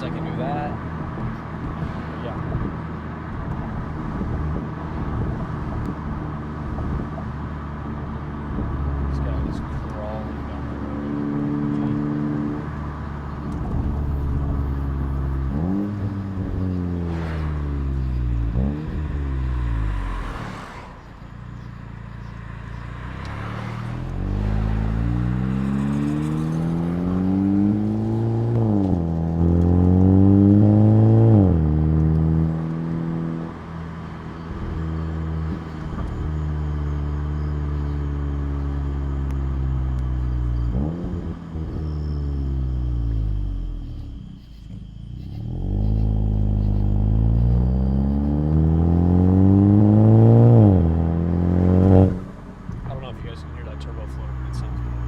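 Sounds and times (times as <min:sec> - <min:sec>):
car exhaust revving and accelerating: 0:00.0 - 0:55.0.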